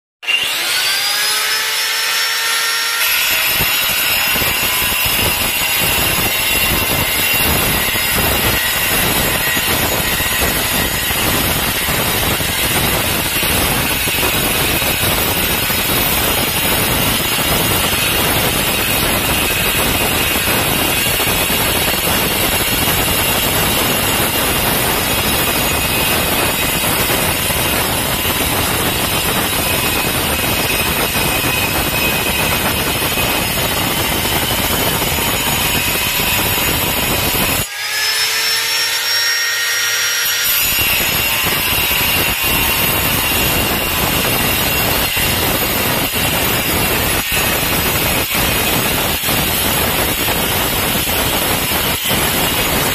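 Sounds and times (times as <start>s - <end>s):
angle grinder cutting tile: 0.2s - 52.9s.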